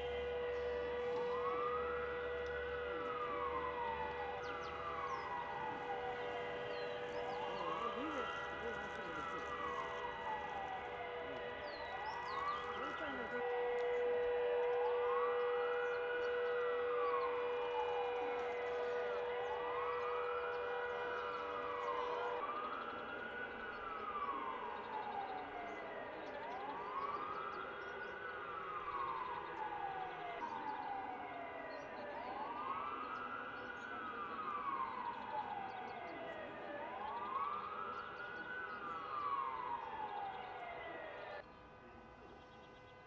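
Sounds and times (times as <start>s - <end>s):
air-raid siren wailing: 0.0s - 43.0s.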